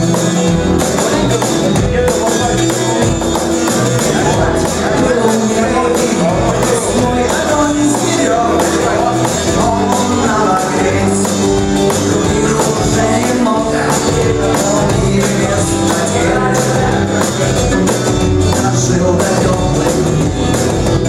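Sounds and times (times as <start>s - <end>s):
bass guitar: 0.0s - 21.0s
rock band playing: 0.0s - 21.0s.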